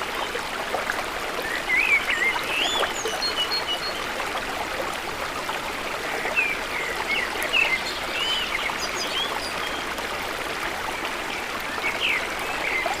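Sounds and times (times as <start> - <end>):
stream water babbling: 0.0 - 13.0.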